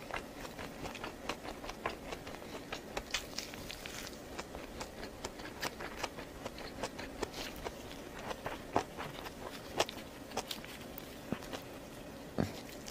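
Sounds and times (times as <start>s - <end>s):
person chewing and eating: 0.0s - 12.9s.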